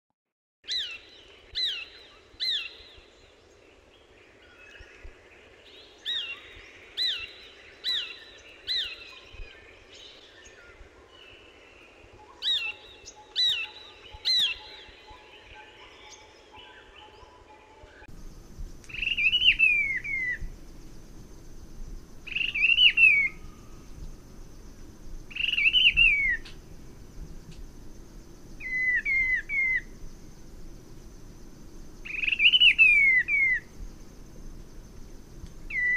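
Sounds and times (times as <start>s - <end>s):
birds calling: 5.6s - 35.9s.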